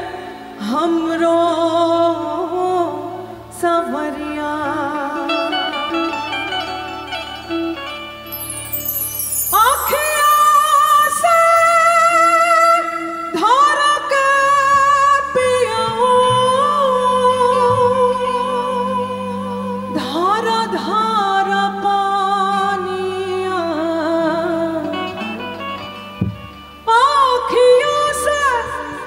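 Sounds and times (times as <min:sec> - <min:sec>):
woman singing into microphone: 0:00.0 - 0:06.2, 0:08.4 - 0:25.9, 0:26.8 - 0:29.0.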